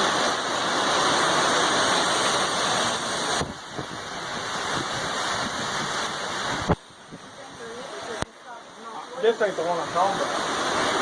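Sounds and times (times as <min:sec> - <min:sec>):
heavy rain: 0:00.0 - 0:11.0
wind: 0:00.0 - 0:11.0.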